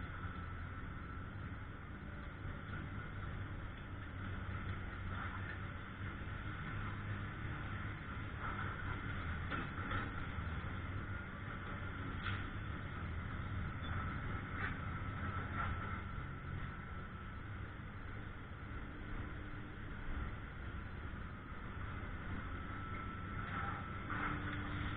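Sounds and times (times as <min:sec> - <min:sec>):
engine humming: 0:00.0 - 0:24.9.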